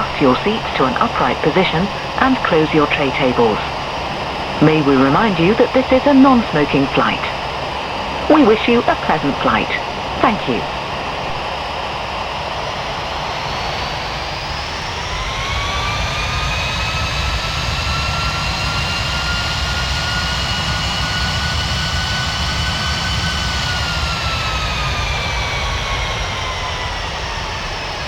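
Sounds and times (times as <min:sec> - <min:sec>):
jet engine rumble in cabin: 0:00.0 - 0:28.0
jet engine whine: 0:00.0 - 0:28.0.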